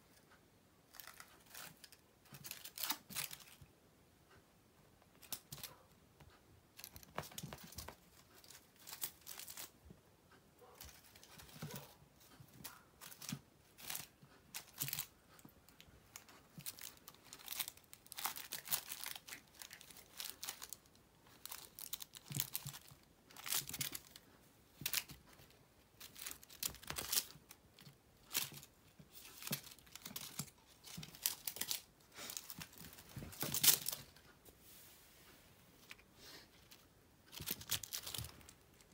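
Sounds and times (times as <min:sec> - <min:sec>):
foil toy crinkling and rustling: 0:00.9 - 0:03.6, 0:06.8 - 0:09.8, 0:10.8 - 0:34.2, 0:36.5 - 0:38.9.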